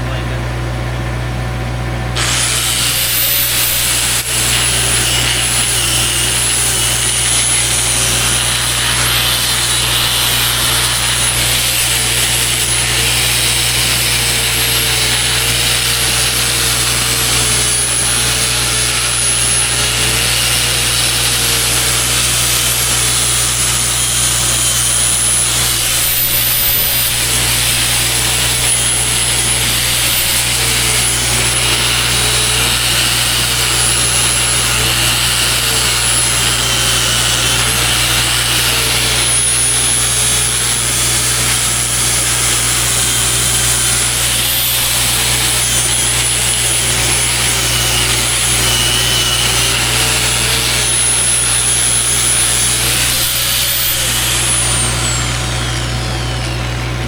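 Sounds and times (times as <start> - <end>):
angle grinder grinding steel: 2.2 - 57.0.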